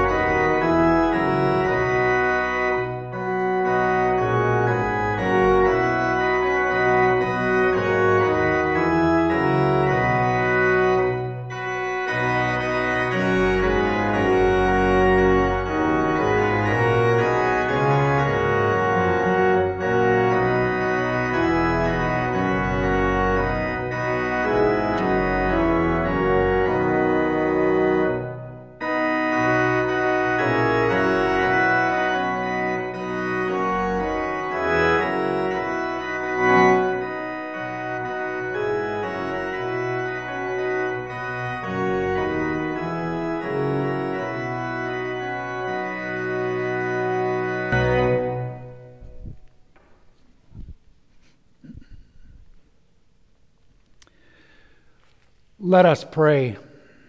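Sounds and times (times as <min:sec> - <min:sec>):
church organ chords: 0:00.0 - 0:50.8, 0:51.5 - 0:57.0.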